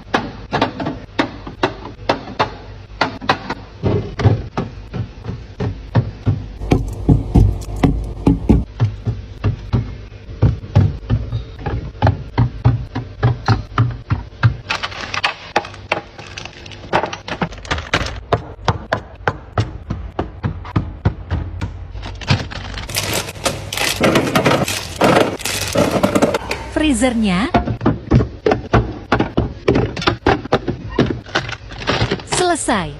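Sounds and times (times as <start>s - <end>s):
food containers knocking in freezer: 0.0s - 26.6s, 27.4s - 32.4s.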